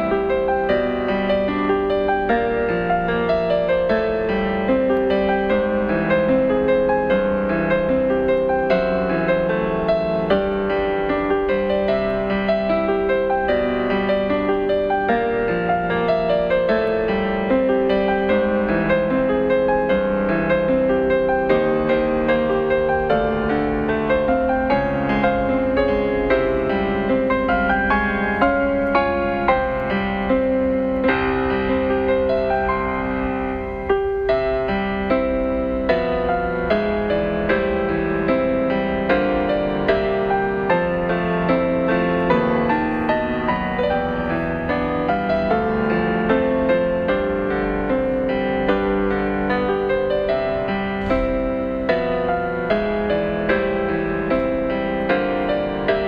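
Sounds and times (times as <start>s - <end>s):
gentle piano music: 0.0s - 56.0s.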